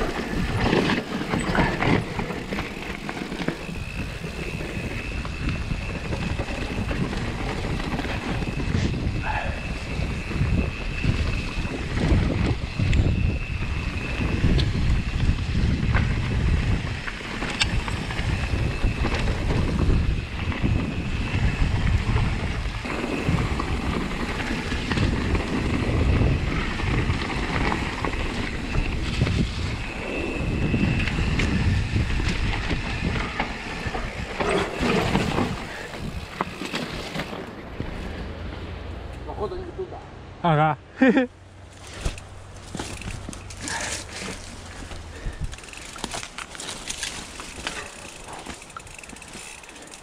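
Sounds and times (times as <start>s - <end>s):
wind buffeting microphone: 0.0s - 38.4s, 42.1s - 50.0s.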